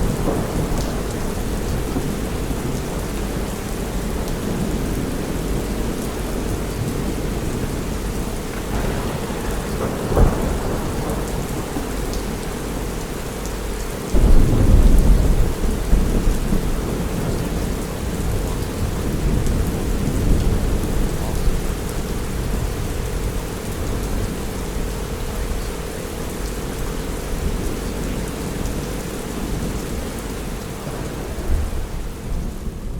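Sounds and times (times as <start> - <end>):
thunder rumbling: 0.0 - 13.3, 14.1 - 26.4, 27.4 - 32.9
steady rain: 0.0 - 32.9.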